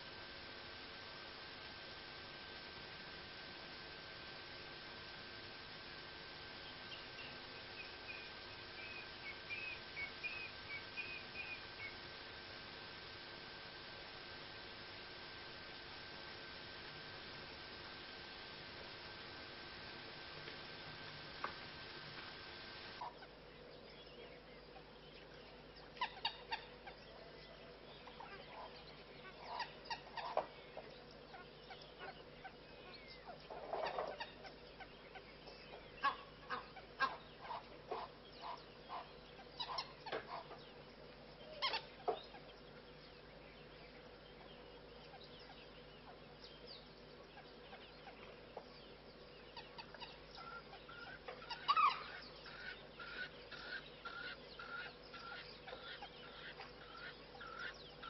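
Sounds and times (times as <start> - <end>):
wild birds calling: 0.0 - 58.0.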